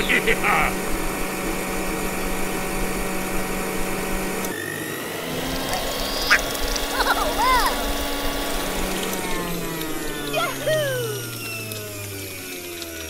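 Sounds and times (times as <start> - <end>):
auger boring into sand: 0.0 - 13.0
small electric motor humming: 0.0 - 13.0.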